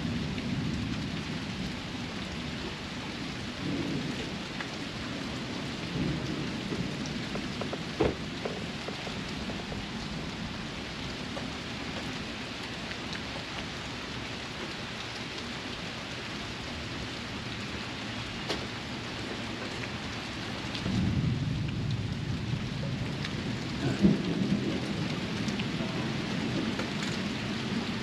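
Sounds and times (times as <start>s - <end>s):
thunder rumble: 0.0s - 12.9s, 17.0s - 28.0s
heavy rain falling: 0.0s - 28.0s.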